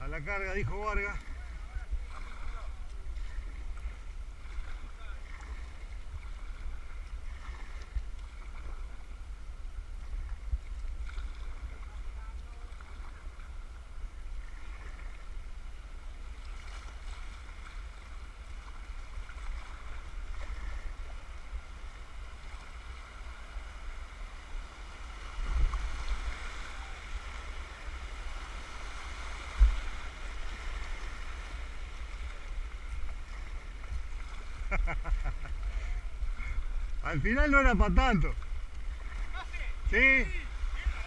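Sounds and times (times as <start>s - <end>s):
rushing river water: 0.0s - 41.0s.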